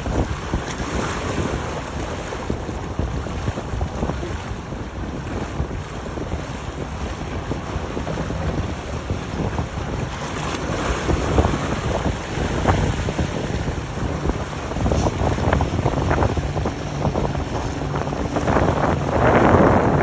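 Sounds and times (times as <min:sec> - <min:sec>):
powerboats running through water: 0:00.0 - 0:20.0
wind buffeting microphone: 0:00.0 - 0:20.0.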